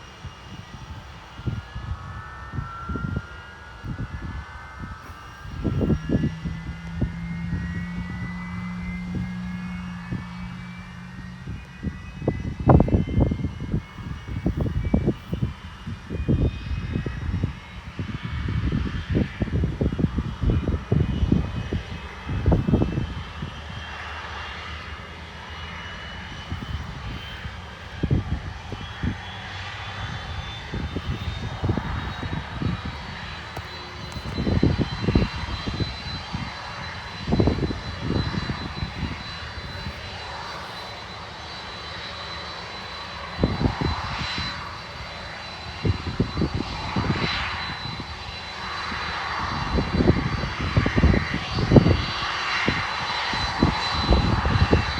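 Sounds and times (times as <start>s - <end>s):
jet engine turbine whine: 0.0s - 54.9s
low rumbling gusts: 0.0s - 54.9s.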